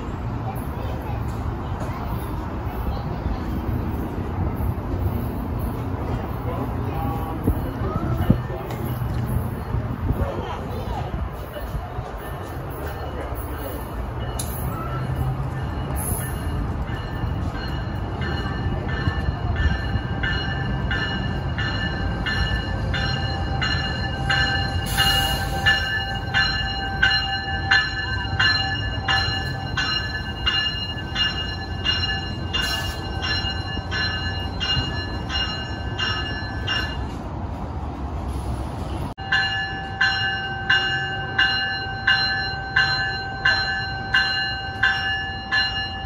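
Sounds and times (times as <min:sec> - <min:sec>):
train rumble: 0:00.0 - 0:46.0
train bell ringing: 0:00.5 - 0:10.0, 0:10.7 - 0:37.5, 0:39.2 - 0:46.0.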